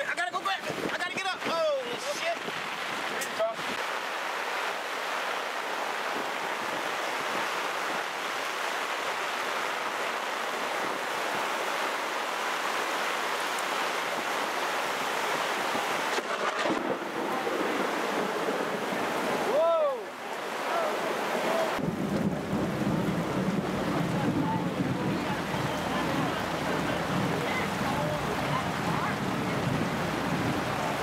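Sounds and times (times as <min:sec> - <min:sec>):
heavy rain on canopy: 0:00.0 - 0:31.0
water running off canopy: 0:00.0 - 0:31.0.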